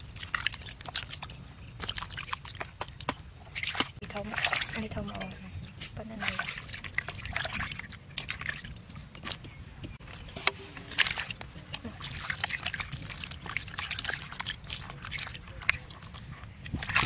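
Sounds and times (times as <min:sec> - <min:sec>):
water splashing in plastic basin: 0:00.0 - 0:05.4, 0:06.0 - 0:09.6, 0:10.4 - 0:17.0.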